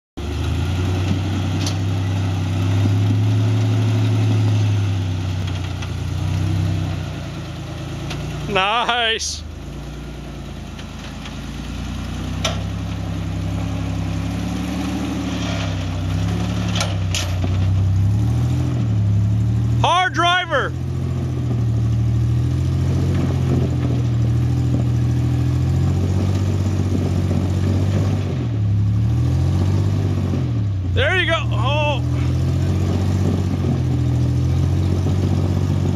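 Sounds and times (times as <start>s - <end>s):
off-road vehicle engine running: 0.2s - 35.9s.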